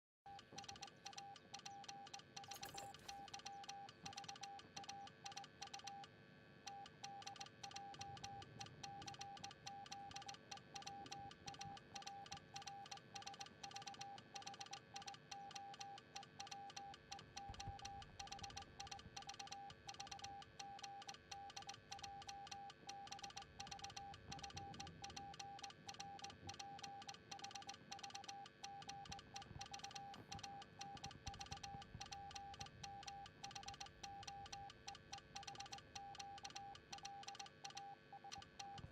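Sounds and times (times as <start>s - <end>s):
morse code beeps: 0.3s - 6.1s, 6.7s - 38.9s.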